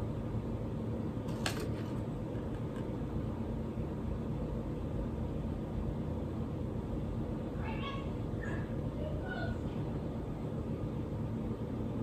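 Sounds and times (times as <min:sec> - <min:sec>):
low fan hum: 0:00.0 - 0:12.0.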